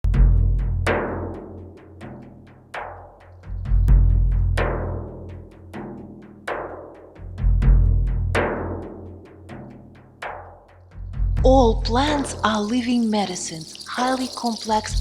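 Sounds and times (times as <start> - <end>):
rhythmic percussion music: 0.0 - 15.0.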